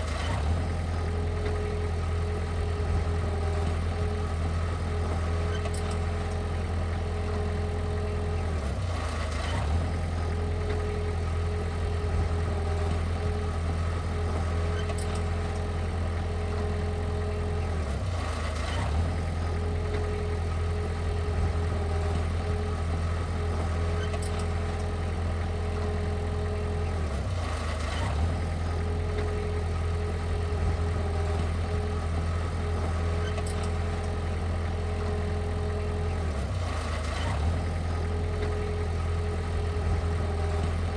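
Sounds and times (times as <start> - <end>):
heavy equipment engine humming: 0.0 - 40.9.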